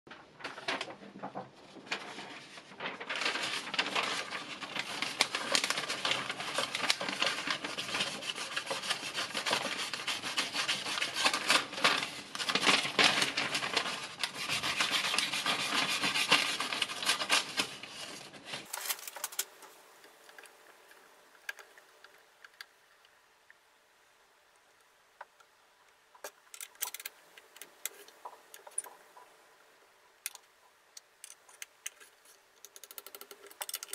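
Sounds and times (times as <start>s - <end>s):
paper rustling and crinkling: 0.1s - 22.7s, 26.2s - 29.4s, 30.3s - 33.9s.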